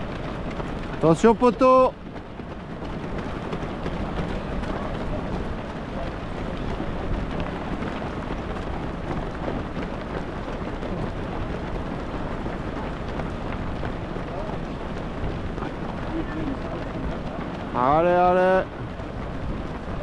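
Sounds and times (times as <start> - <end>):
runners' shoes on asphalt: 0.0 - 20.0.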